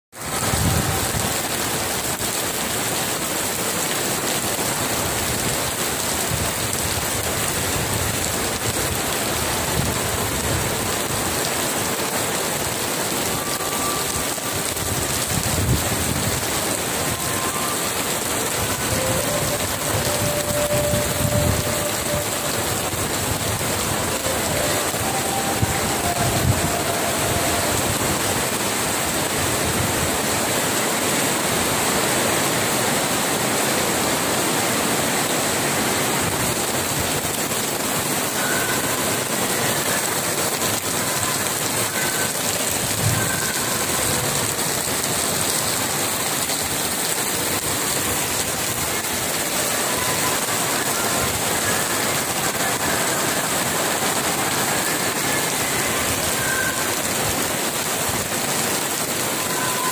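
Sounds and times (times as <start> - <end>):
heavy rain on paving and metal: 0.1 - 59.9.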